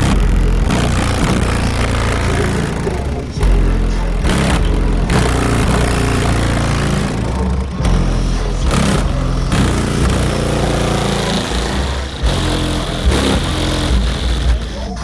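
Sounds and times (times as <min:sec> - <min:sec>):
car engine revving through exhaust: 0:00.0 - 0:15.0.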